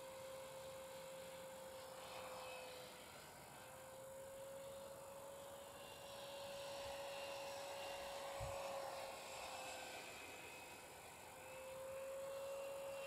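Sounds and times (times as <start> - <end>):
model jet fan whining: 0.0 - 13.0.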